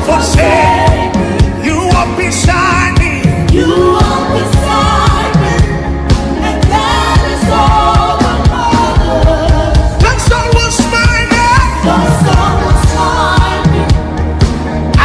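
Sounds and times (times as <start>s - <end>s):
gospel worship music with vocals: 0.0s - 15.0s.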